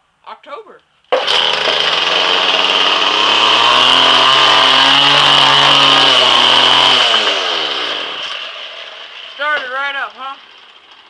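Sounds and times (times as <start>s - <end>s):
string trimmer engine running: 1.1s - 11.0s.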